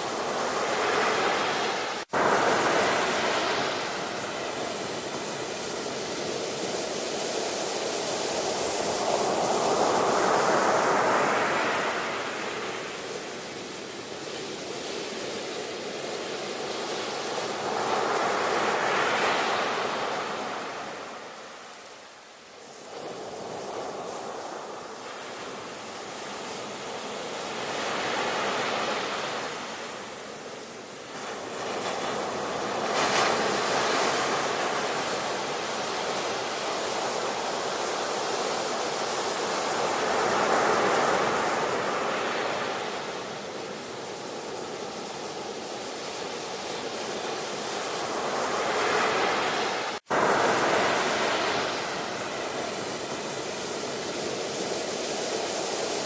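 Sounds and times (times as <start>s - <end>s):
ocean waves breaking: 0.0s - 21.8s, 22.6s - 56.0s.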